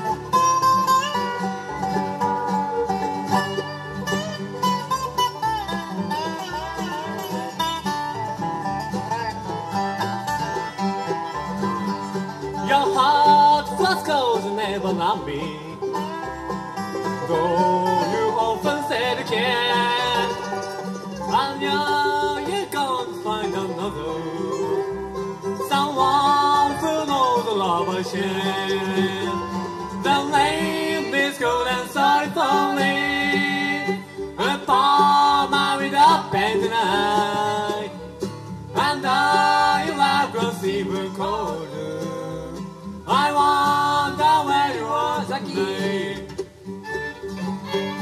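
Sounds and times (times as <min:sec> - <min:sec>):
acoustic guitar: 0:00.0 - 0:48.0
banjo: 0:00.0 - 0:48.0
dobro: 0:00.0 - 0:48.0
fiddles: 0:00.0 - 0:48.0
mandolin: 0:00.0 - 0:48.0
upright bass: 0:00.0 - 0:48.0.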